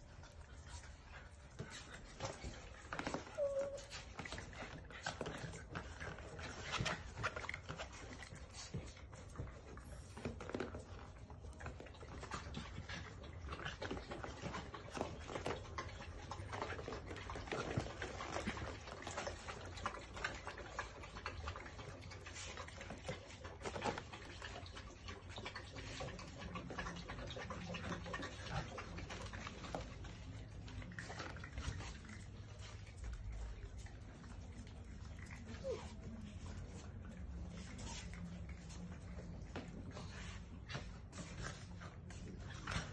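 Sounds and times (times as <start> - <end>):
small dogs scuffling: 0.0 - 20.6, 21.2 - 42.9
small dog sounds: 0.2 - 42.9.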